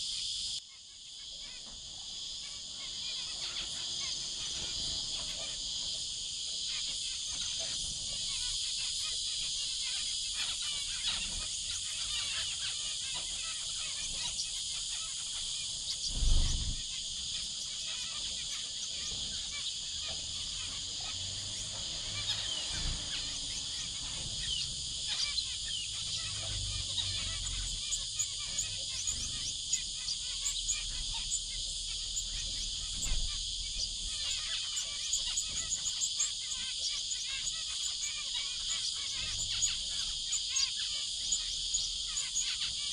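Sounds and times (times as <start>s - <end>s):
finches chirping: 0.0s - 42.9s
insects hissing: 0.0s - 42.9s.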